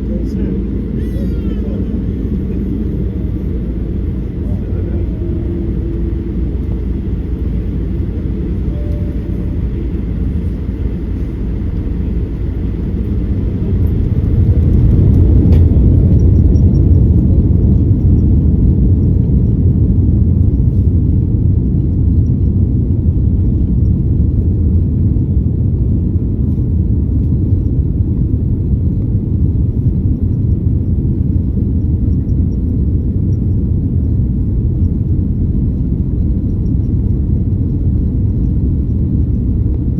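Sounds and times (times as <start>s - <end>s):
airliner takeoff rumble: 0.0s - 39.9s.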